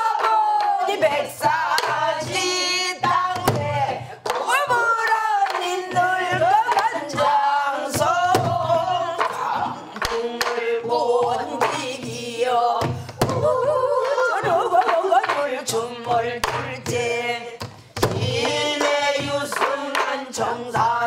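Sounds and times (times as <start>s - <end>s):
woman singing with wavering pitch: 0.0s - 17.6s.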